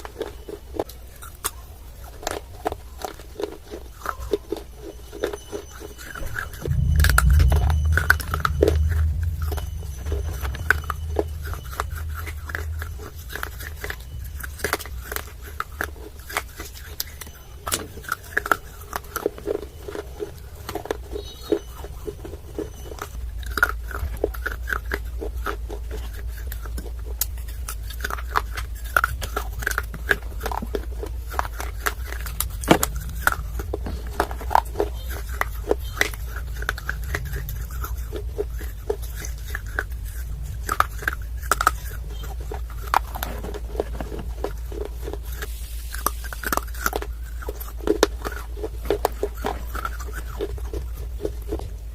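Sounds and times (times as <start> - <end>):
crunching and chewing clay: 0.0 - 51.9
steady low hum: 1.8 - 51.9.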